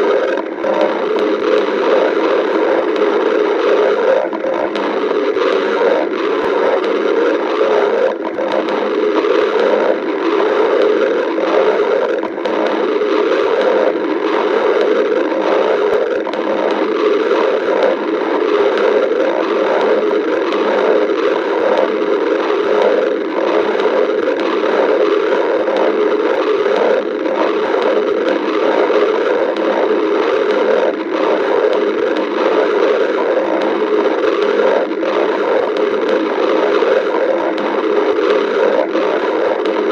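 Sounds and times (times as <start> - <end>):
stomach growling and gurgling: 0.0 - 39.9.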